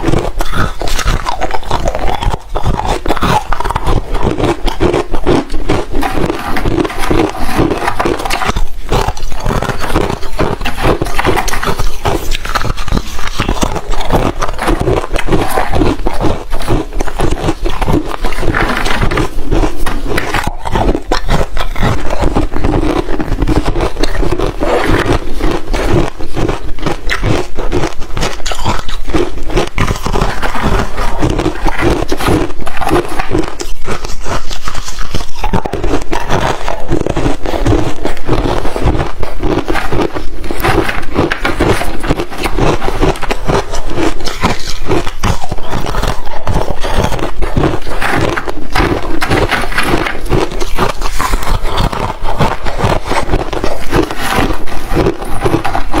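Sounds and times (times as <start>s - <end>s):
ice crunching being chewed: 0.0s - 56.0s.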